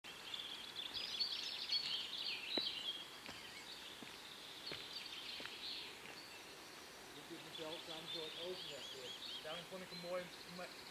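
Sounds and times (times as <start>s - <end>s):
faint outdoor background noise: 0.0s - 10.9s
small birds chirping: 0.1s - 10.9s.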